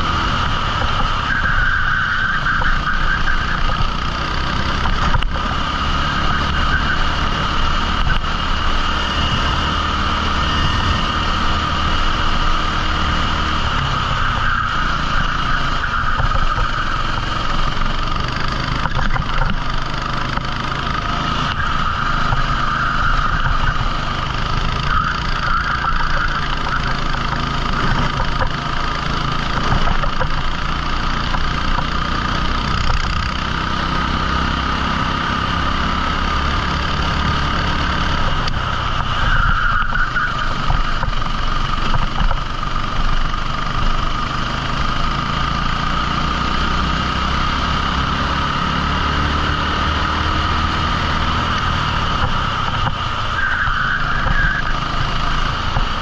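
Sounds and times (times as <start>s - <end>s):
kart engine running: 0.0s - 56.0s.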